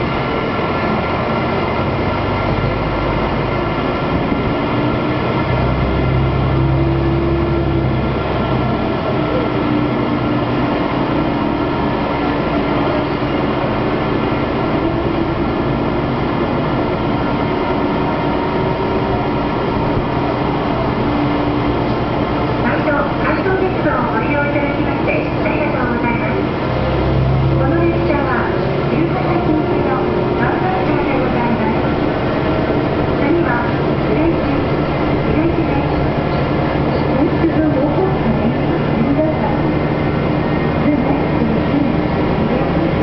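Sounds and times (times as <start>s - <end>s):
diesel engine drone: 0.0s - 43.0s
rail noise: 0.0s - 43.0s.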